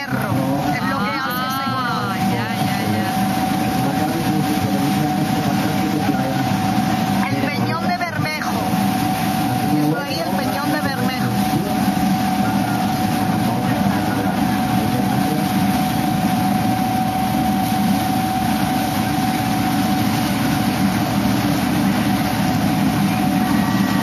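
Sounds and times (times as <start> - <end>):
boat engine running: 0.0 - 24.0
constant hum: 0.0 - 24.0
rushing water noise: 0.0 - 24.0.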